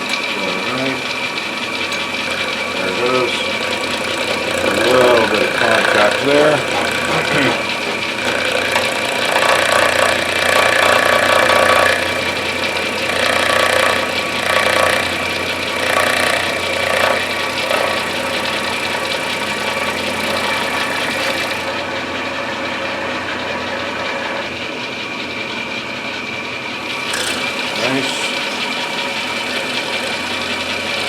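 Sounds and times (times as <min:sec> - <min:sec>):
end mill cutting wood: 0:00.0 - 0:31.0
motor hum: 0:00.0 - 0:31.0.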